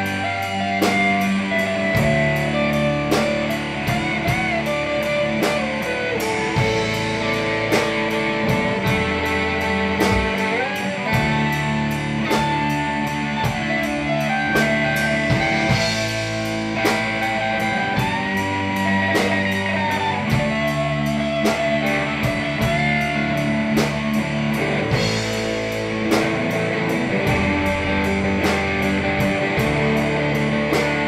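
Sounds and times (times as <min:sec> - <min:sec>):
bass guitar: 0:00.0 - 0:31.0
drum kit beat: 0:00.0 - 0:31.0
electric guitar lead with bends: 0:00.0 - 0:31.0.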